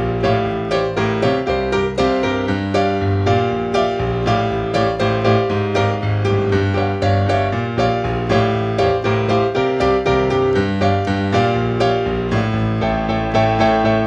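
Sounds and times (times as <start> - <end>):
blues piano playing: 0.0 - 14.0.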